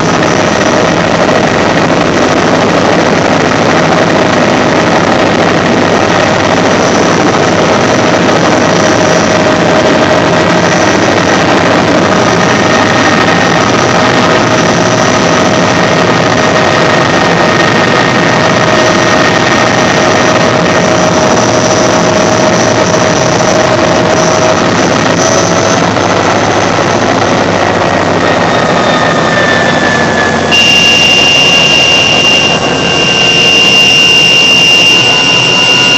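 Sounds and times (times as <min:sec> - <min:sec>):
engine and rotor rush: 0:00.0 - 0:35.9
high turbine whine: 0:00.0 - 0:35.9.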